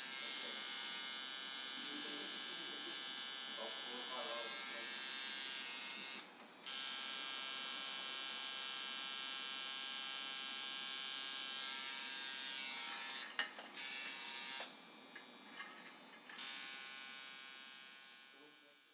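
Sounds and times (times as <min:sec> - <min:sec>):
tattoo machine buzzing: 0:00.0 - 0:18.9.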